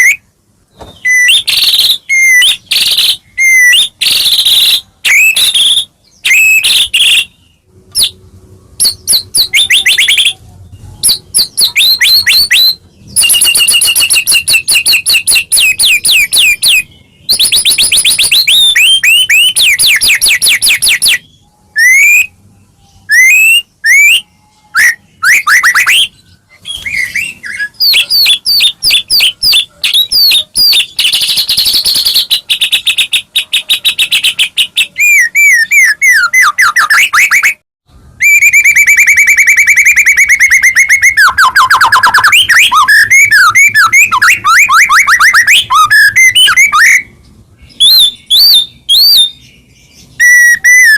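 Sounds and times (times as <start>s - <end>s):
bird singing whistles and trills: 0.0s - 8.2s, 8.8s - 50.9s.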